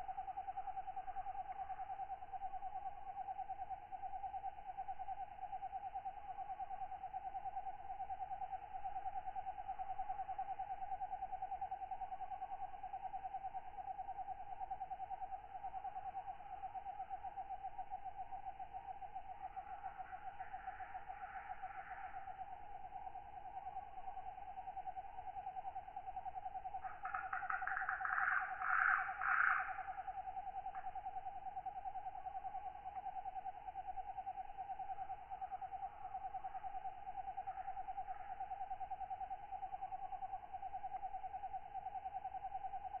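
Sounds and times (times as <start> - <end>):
fainter higher insect calls: 0.0 - 43.0.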